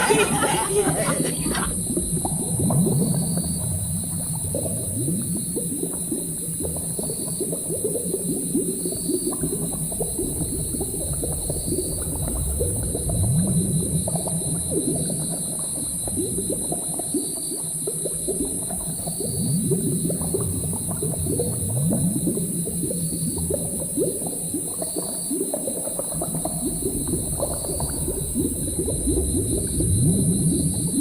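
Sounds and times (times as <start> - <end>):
liquid bubbling and gurgling: 0.0 - 31.0.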